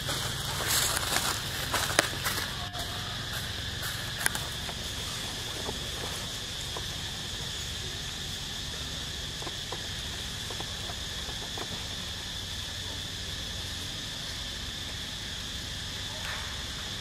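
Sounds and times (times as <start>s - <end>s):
high-pitched insect drone: 0.0s - 17.0s
low steady rumble: 0.0s - 17.0s.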